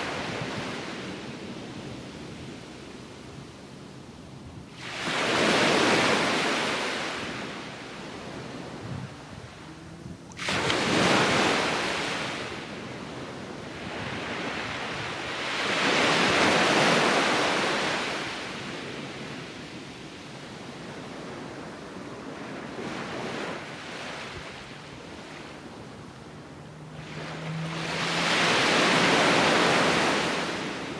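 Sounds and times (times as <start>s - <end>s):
steady wash of sea: 0.0s - 30.9s
waves crashing on beach: 0.0s - 30.9s.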